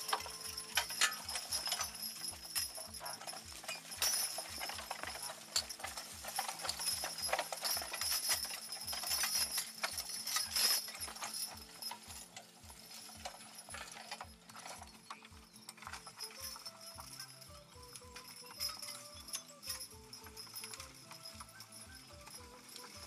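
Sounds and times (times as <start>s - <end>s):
background music with steady beat: 0.0s - 23.0s
harness chains clinking: 0.0s - 23.0s
horse hoof steps: 0.0s - 23.0s.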